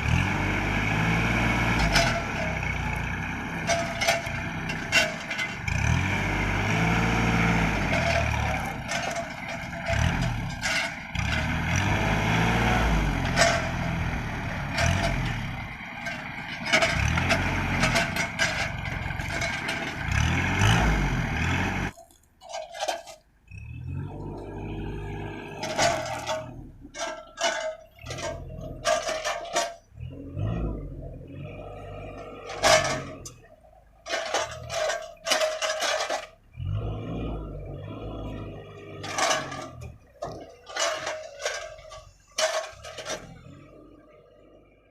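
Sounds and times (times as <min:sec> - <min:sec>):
knocks and clatter: 0:00.0 - 0:23.3, 0:25.4 - 0:30.8, 0:31.4 - 0:43.7
tractor diesel engine revving: 0:00.0 - 0:44.9.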